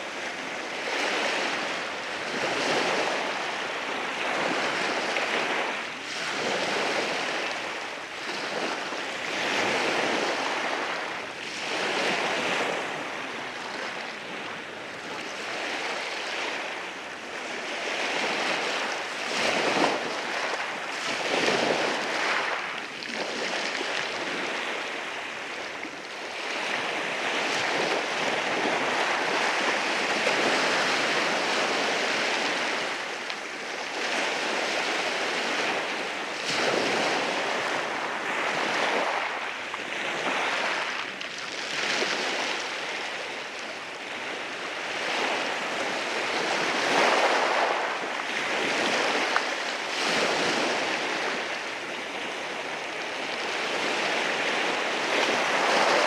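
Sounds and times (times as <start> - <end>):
sea waves breaking over rocks: 0.0 - 56.0.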